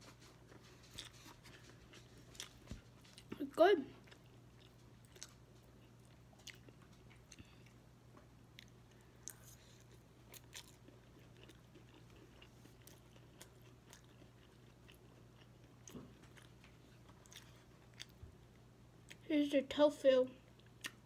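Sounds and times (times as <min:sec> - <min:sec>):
close-up chewing: 0:00.0 - 0:19.2, 0:20.4 - 0:21.0
low steady hum: 0:00.0 - 0:21.0.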